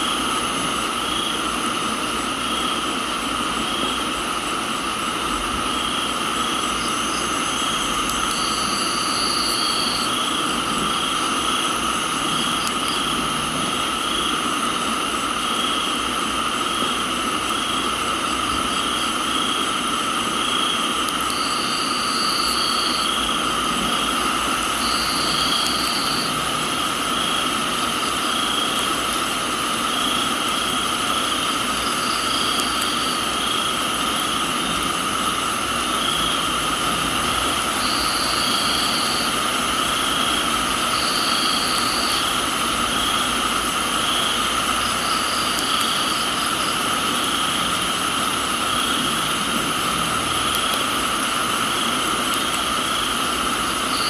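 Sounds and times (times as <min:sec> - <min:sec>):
crickets and insects trilling: 0:00.0 - 0:54.0
rain hiss: 0:00.0 - 0:54.0.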